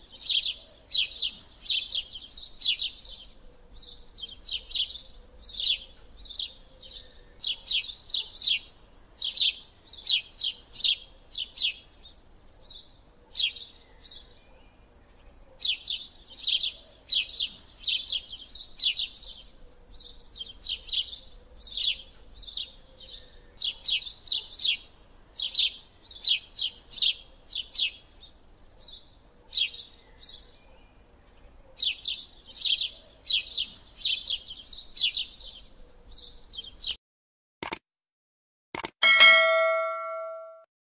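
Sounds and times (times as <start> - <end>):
small bird chirping: 0.0 - 37.0.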